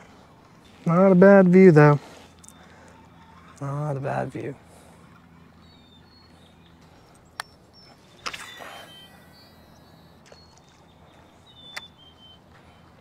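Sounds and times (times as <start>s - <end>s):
faint high chirps: 2.2s - 13.0s.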